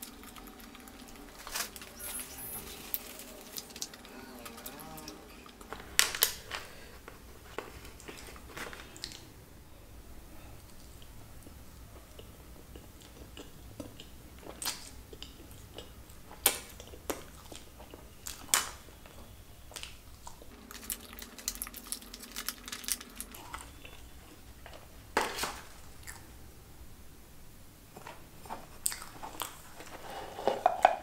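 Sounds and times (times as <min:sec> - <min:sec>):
chewing and wet mouth sounds: 0:00.0 - 0:09.3, 0:10.6 - 0:24.4, 0:25.9 - 0:26.4, 0:28.4 - 0:30.0.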